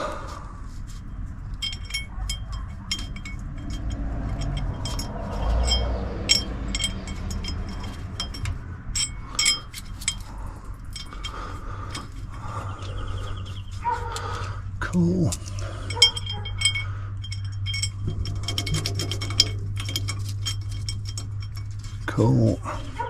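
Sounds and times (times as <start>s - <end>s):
metal bolts clinking: 1.4s - 23.0s.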